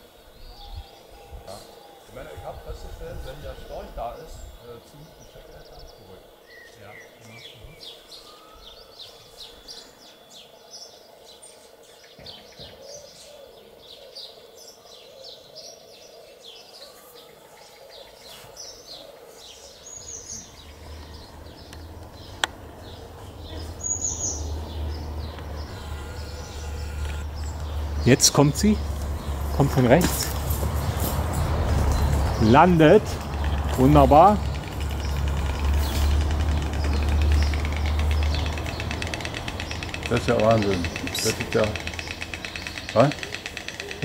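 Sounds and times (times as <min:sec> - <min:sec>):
outdoor background noise: 0:00.0 - 0:44.0
songbirds chirping: 0:00.0 - 0:44.0.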